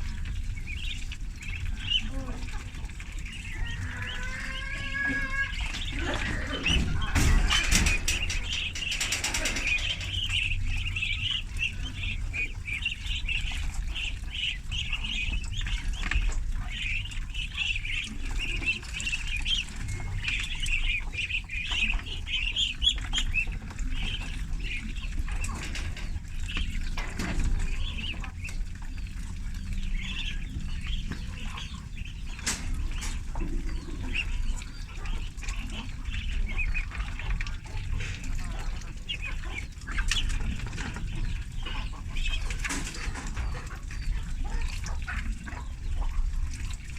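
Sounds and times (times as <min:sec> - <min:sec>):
ducklings peeping: 0:00.0 - 0:46.9.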